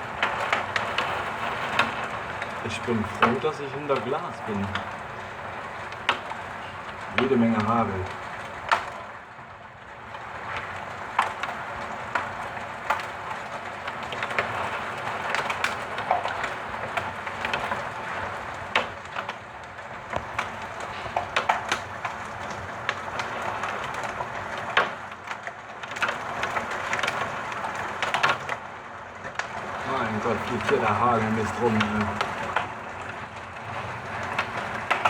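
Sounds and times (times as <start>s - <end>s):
hailstones cracking on hard surfaces: 0.0s - 35.0s
heavy rain rushing: 0.0s - 35.0s.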